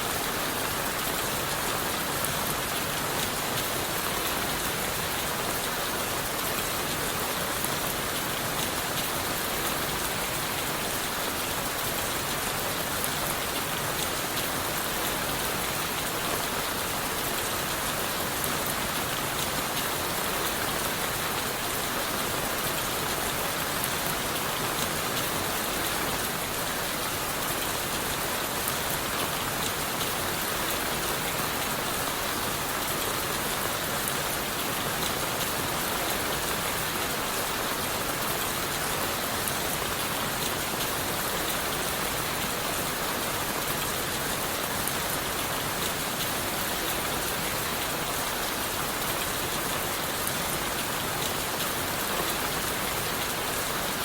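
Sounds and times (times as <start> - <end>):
rain falling on leaves and wood: 0.0 - 54.0.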